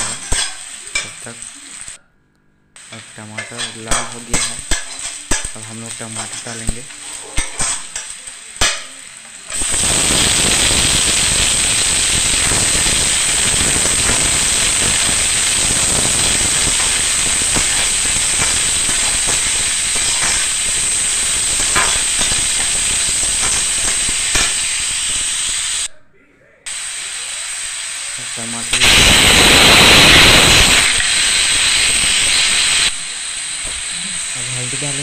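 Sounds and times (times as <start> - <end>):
food sizzling in hot oil: 0.0 - 2.0, 2.8 - 25.9, 26.7 - 35.0.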